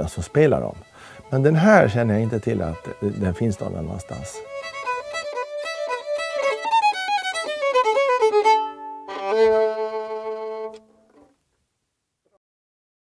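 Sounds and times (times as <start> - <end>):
solo fiddle playing: 0.0 - 11.3.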